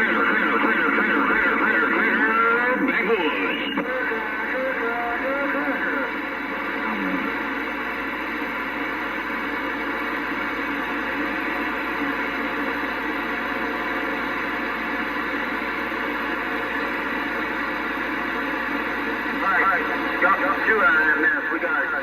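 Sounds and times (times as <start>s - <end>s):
radio static: 0.0s - 22.0s.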